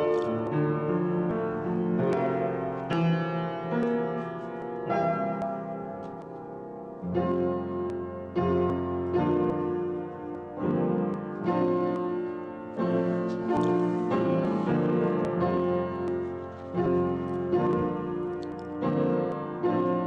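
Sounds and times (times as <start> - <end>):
solo piano chords: 0.0 - 20.0.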